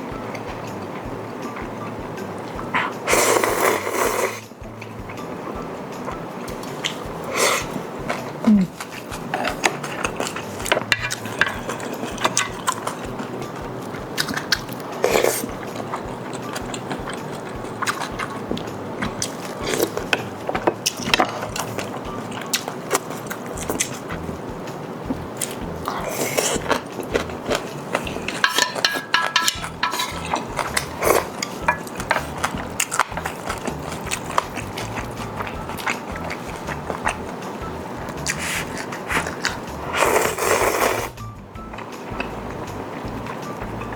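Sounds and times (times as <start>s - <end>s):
chewing: 0.2s - 43.9s
slurping: 1.6s - 5.2s, 6.3s - 24.5s, 25.1s - 43.9s.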